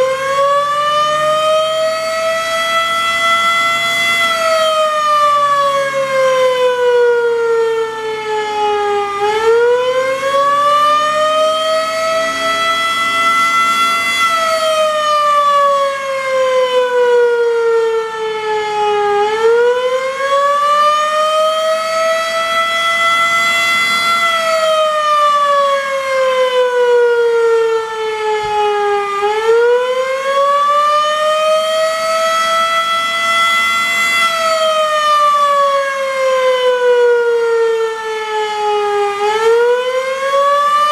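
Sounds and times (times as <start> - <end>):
civil defense siren wailing: 0.0 - 40.9.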